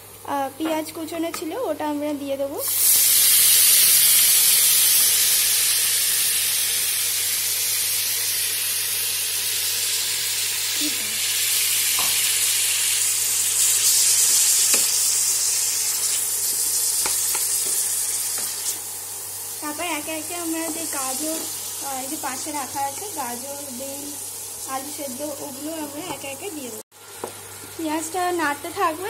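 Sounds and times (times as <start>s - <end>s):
onions sizzling in hot oil: 2.4s - 29.0s.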